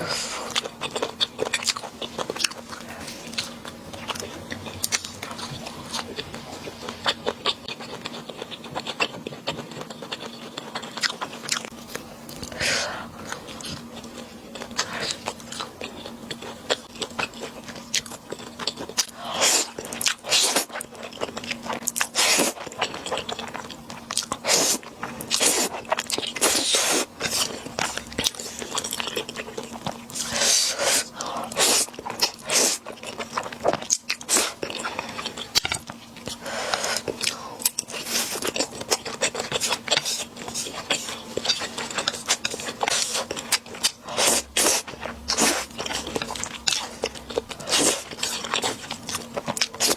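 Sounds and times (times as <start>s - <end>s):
close-miked chewing and biting: 0.0s - 49.9s.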